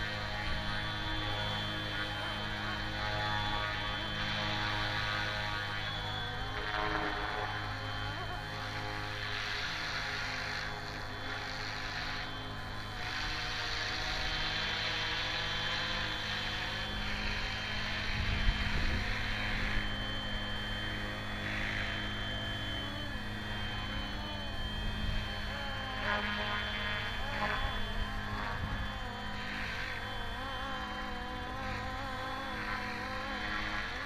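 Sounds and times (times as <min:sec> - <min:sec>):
low electrical hum: 0:00.0 - 0:34.0
rc helicopter rotor whine: 0:00.0 - 0:34.0.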